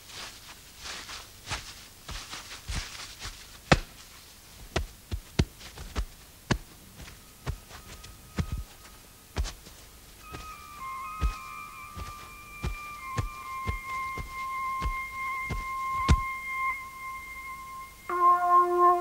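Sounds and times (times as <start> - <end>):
soft rustling: 0.0 - 18.1.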